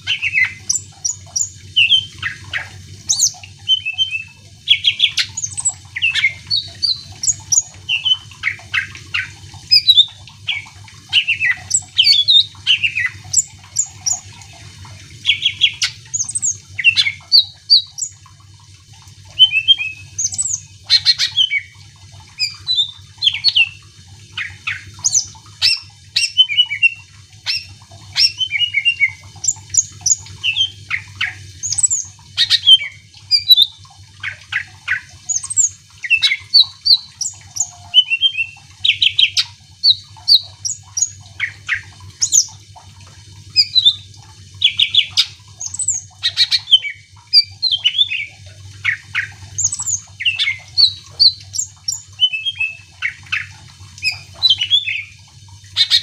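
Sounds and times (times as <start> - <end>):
bird singing whistles and trills: 0.0 - 14.3, 15.2 - 18.1, 19.3 - 21.7, 22.4 - 23.8, 24.4 - 42.5, 43.6 - 55.2, 55.8 - 56.0.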